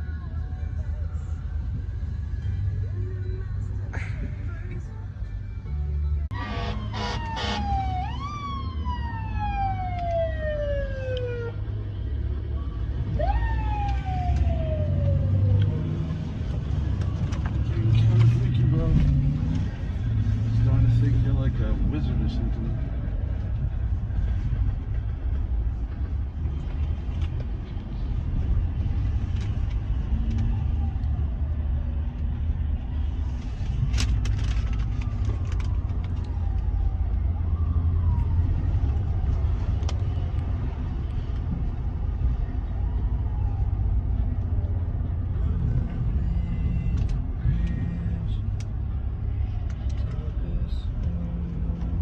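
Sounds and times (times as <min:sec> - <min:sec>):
vehicle engine rumbling: 0:00.0 - 0:52.0.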